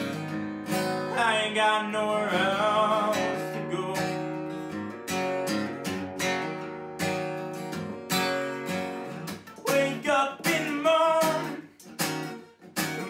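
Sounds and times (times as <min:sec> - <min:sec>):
acoustic guitar chords strummed: 0:00.0 - 0:13.0.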